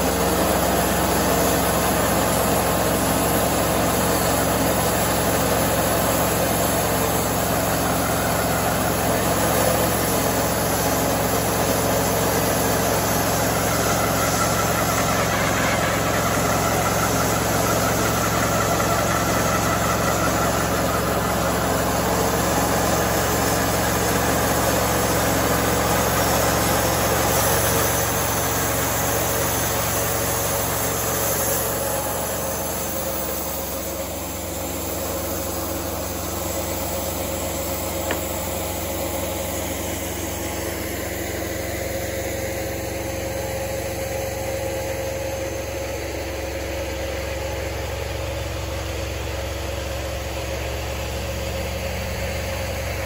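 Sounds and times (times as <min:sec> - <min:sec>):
band sawmill cutting log: 0:00.0 - 0:53.0.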